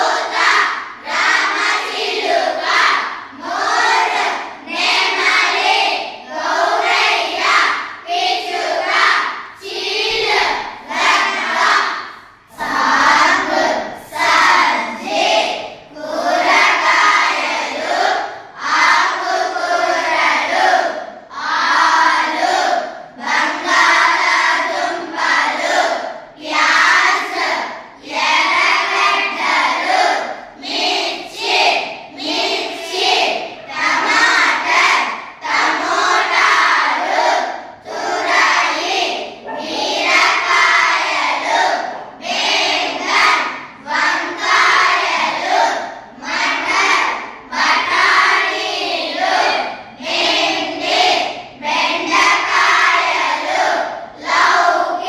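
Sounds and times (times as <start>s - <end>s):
children reciting together: 0.0s - 55.0s.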